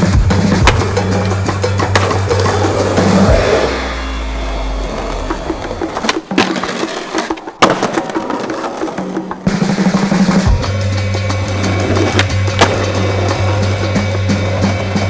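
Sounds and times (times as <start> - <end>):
backing music: 0.0 - 15.0
skateboard clacks: 0.0 - 15.0
skateboard wheels rolling on pavement: 0.0 - 15.0.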